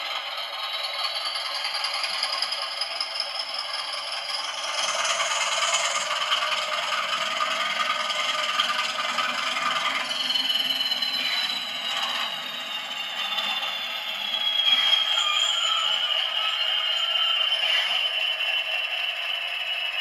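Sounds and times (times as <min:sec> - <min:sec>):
diesel engine sound through small speaker: 0:00.0 - 0:20.0
model wheels rattling on track: 0:00.0 - 0:20.0
sliding whistling tones: 0:00.0 - 0:20.0.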